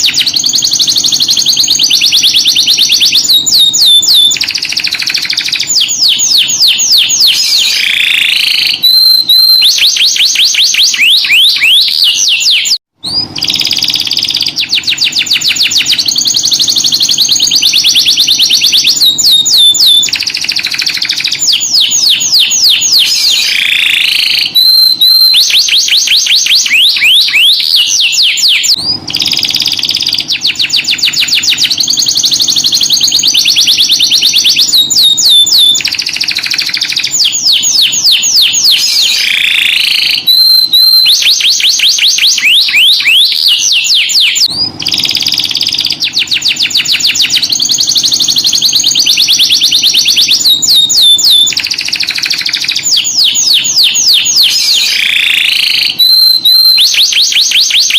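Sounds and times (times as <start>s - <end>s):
canary singing trills and whistles: 0.0s - 57.9s.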